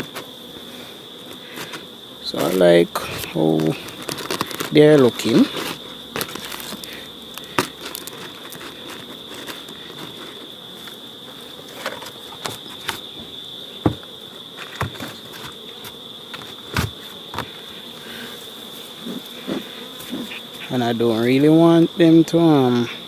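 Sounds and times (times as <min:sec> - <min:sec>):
insect trilling: 0:00.0 - 0:23.0.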